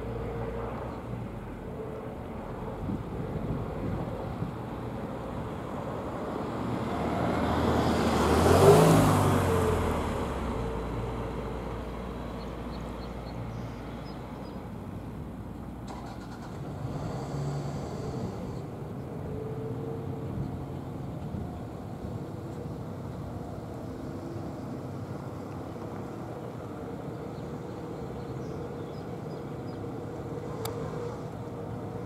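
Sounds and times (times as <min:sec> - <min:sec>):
vehicle passing by: 0:00.0 - 0:14.4, 0:15.9 - 0:32.0.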